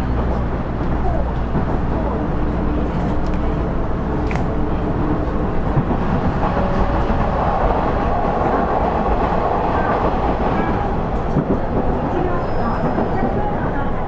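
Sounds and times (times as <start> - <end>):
diesel railcar engine: 0.0 - 14.0.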